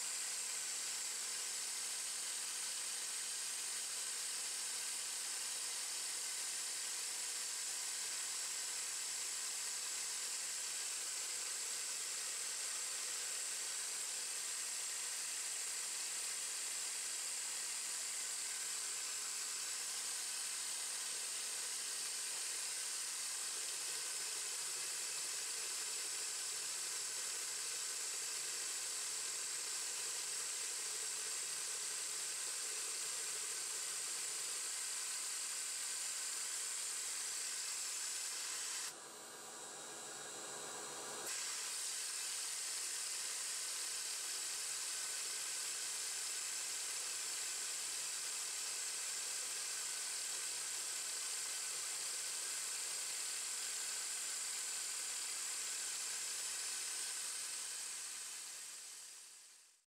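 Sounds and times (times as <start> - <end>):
metal lathe spinning hiss: 0.0 - 59.8.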